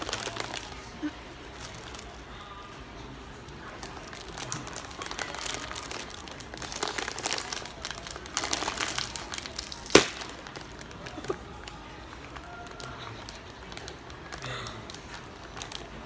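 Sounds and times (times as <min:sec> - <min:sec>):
crisp packet crinkling: 0:00.0 - 0:02.6, 0:03.6 - 0:16.0.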